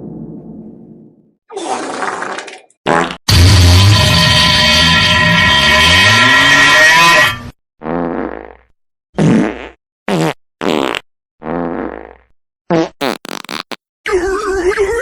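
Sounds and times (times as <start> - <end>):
fart sound effects: 1.6 - 13.8.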